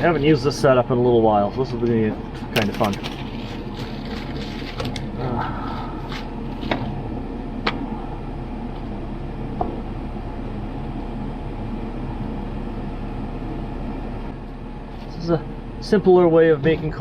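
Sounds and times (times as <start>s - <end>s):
furnace blower whirring: 0.0s - 17.0s.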